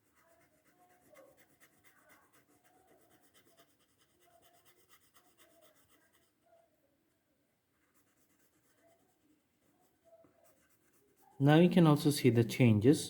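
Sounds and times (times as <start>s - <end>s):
colouring strokes on paper: 0.0s - 6.8s, 7.7s - 12.8s.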